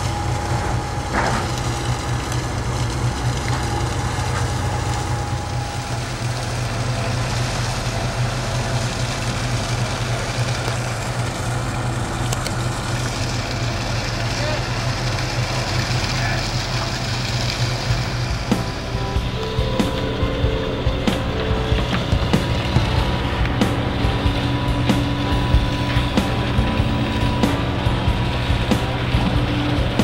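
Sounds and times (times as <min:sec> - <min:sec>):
boat engine droning: 0:00.0 - 0:30.0
thin steady whine: 0:00.0 - 0:30.0.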